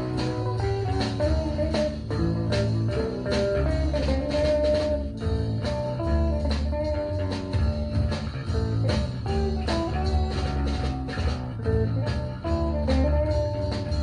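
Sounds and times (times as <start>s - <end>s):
rock band on vinyl record: 0.0s - 14.0s.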